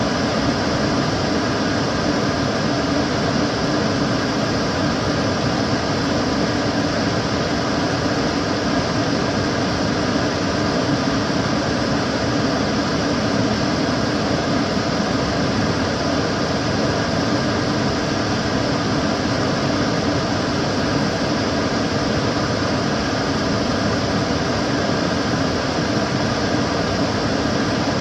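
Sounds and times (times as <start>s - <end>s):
cooker hood extractor fan running: 0.0s - 28.0s.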